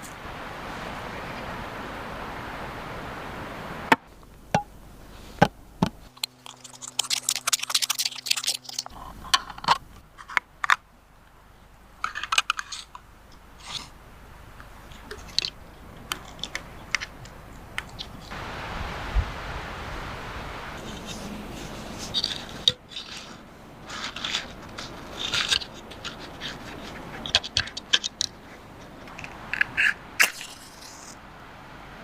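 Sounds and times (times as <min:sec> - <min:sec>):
low steady hum: 0:00.0 - 0:32.0
outdoor background noise: 0:00.0 - 0:32.0.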